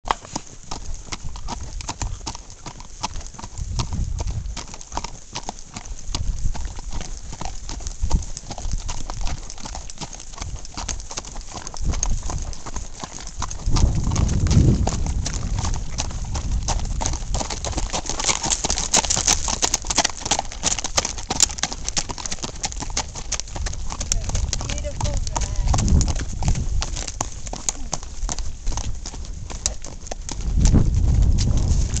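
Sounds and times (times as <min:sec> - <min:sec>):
horses hoofbeats on dry ground: 0:00.0 - 0:32.0.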